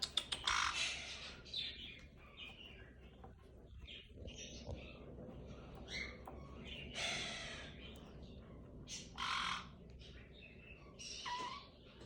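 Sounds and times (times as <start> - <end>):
parrot chirping: 0.0 - 11.8.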